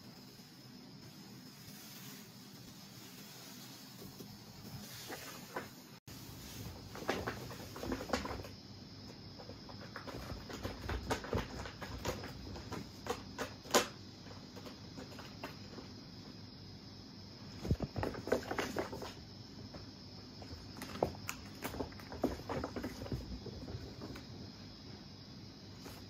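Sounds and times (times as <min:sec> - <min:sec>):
kitten paws tapping and scratching: 0:01.8 - 0:16.0, 0:17.5 - 0:24.4.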